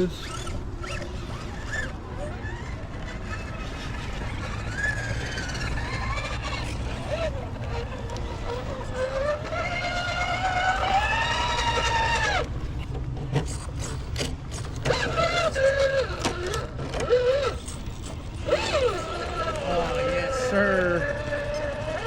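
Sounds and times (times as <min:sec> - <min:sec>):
electric motor and gear whine: 0:00.0 - 0:22.0.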